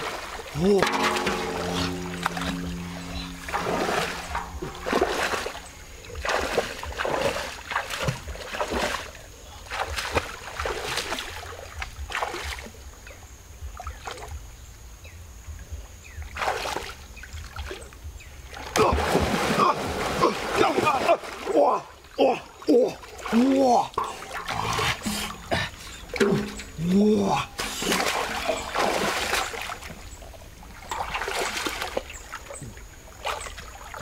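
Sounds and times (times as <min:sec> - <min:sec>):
water splashing from wading: 0:00.0 - 0:14.5, 0:16.1 - 0:34.0.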